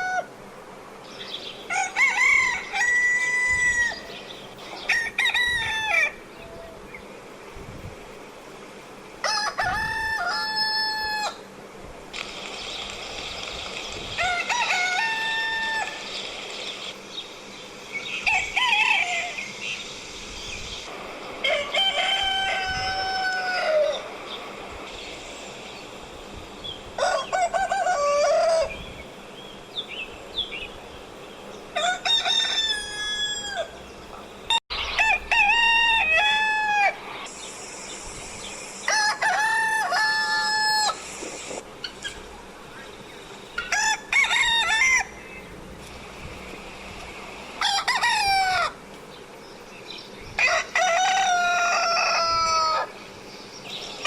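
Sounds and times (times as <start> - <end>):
roosters crowing: 0.0 - 0.6, 1.5 - 7.1, 9.1 - 11.7, 14.0 - 24.6, 26.1 - 29.3, 31.4 - 37.3, 38.4 - 54.0.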